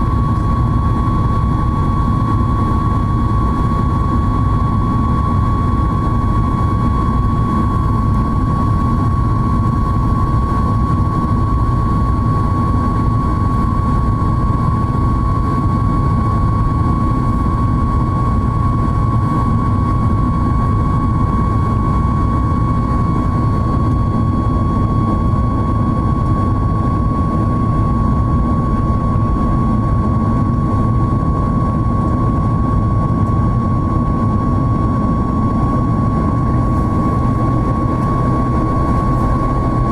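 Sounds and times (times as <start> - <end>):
constant high whine: 0.0 - 39.9
jet engine rumble and airflow: 0.0 - 39.9.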